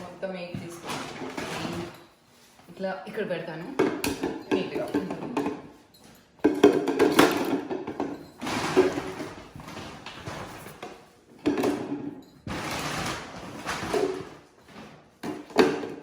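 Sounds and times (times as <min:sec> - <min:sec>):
plastic containers scraping and knocking: 0:00.0 - 0:16.0.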